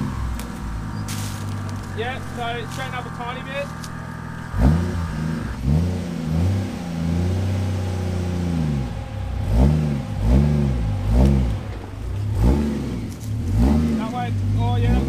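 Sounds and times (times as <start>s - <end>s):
engine revving under load: 0.0s - 15.0s.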